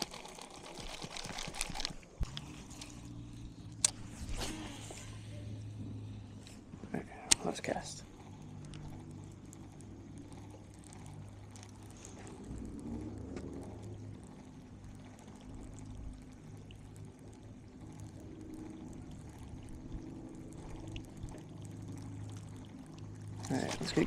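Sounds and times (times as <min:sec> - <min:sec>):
steady low hum: 0:00.0 - 0:24.0
water lapping against boat: 0:00.0 - 0:24.0.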